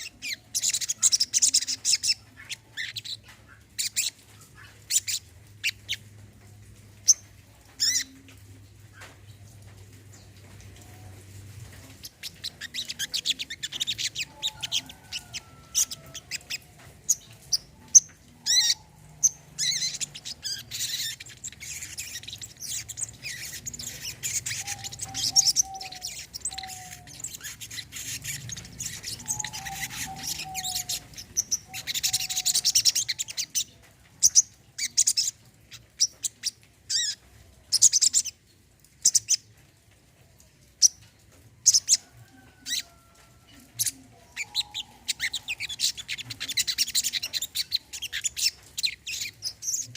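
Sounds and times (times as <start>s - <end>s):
bird twittering chirps and trills: 0.0s - 39.5s, 40.8s - 49.9s.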